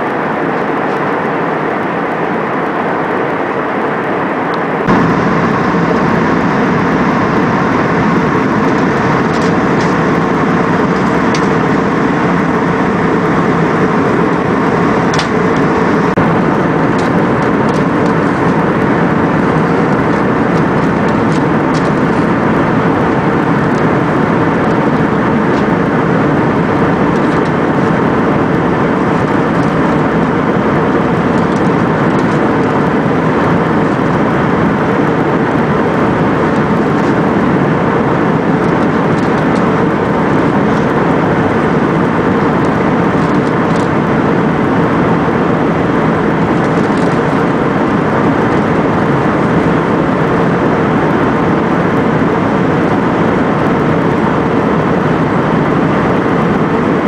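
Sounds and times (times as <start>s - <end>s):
jet airliner cabin noise: 0.0s - 57.0s.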